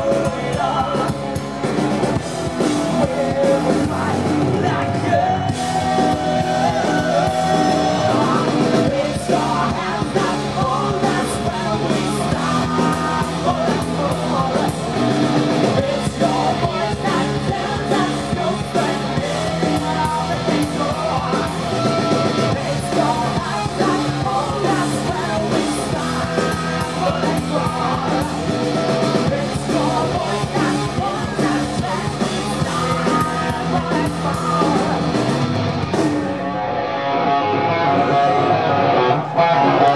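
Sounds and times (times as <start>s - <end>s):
heavy rock band playing: 0.0s - 39.9s.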